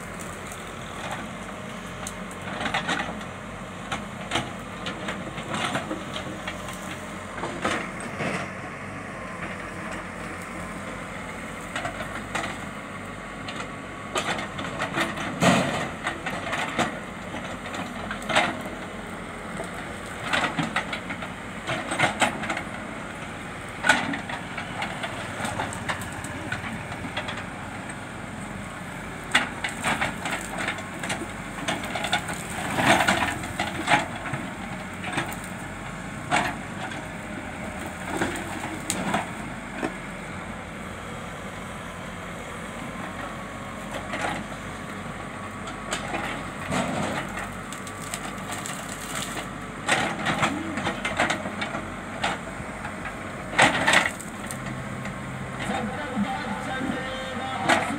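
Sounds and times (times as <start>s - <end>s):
branches cracking and crunching: 0.0s - 8.6s, 9.3s - 57.6s
diesel engines running: 0.0s - 57.9s.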